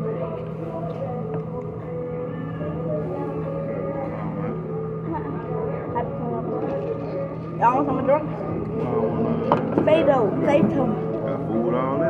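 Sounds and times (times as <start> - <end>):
indistinct chatter: 0.0 - 12.0
steady low hum: 0.0 - 12.0.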